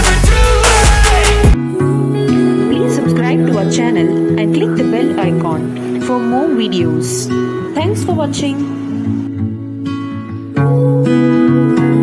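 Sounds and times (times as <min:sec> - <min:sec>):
strummed guitar: 0:00.0 - 0:12.0.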